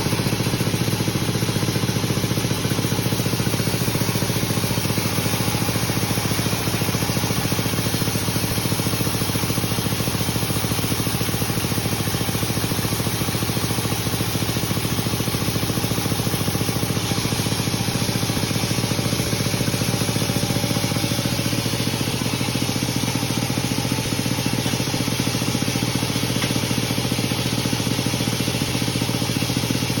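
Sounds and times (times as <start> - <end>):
sawmill machinery droning: 0.0 - 30.0.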